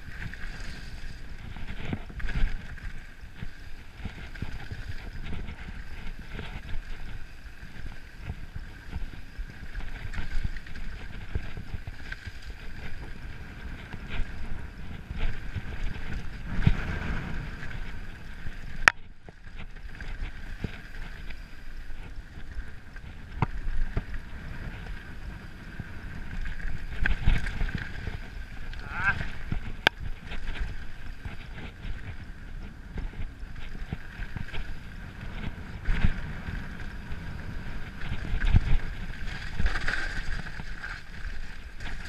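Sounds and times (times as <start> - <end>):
bike tyres rumbling over dirt: 0.0 - 42.0
wind on the microphone: 0.0 - 42.0
bike rattling and knocking: 1.2 - 42.0.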